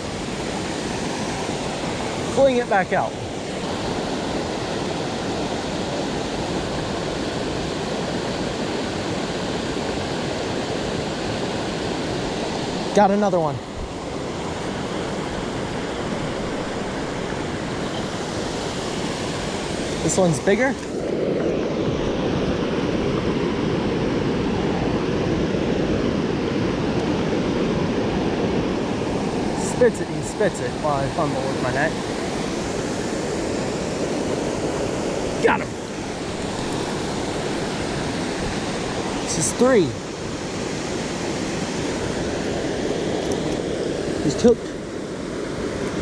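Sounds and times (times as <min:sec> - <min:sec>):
river water over small falls: 0:00.0 - 0:46.0.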